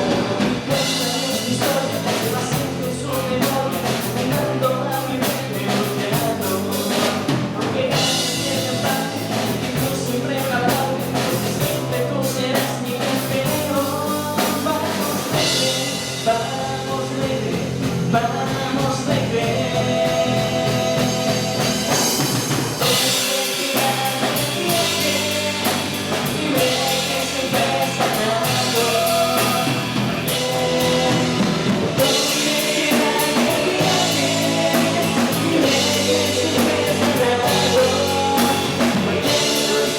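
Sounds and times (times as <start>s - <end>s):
drum kit: 0.0s - 39.9s
person singing: 0.0s - 39.9s
rock song: 0.0s - 39.9s.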